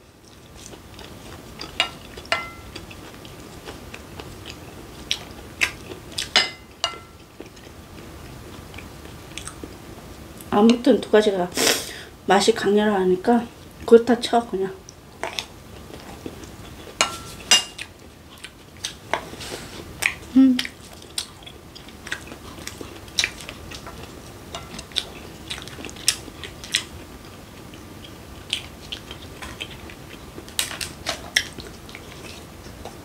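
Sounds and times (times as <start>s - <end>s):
person chewing food: 0.1s - 10.5s, 14.8s - 33.0s.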